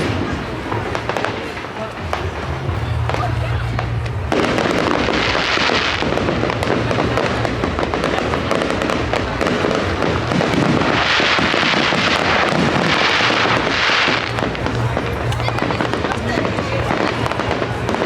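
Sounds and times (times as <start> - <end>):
fireworks crackling and popping: 0.0 - 18.0.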